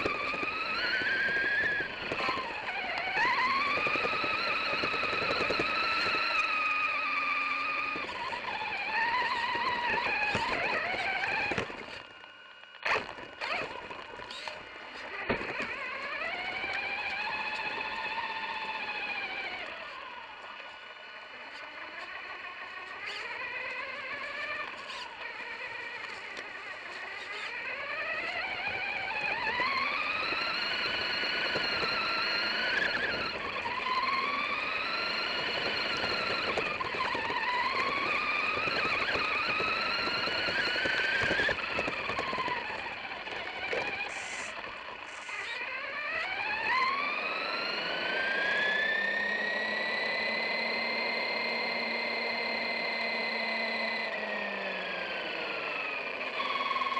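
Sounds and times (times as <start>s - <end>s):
electric motor whining: 0.0s - 56.9s.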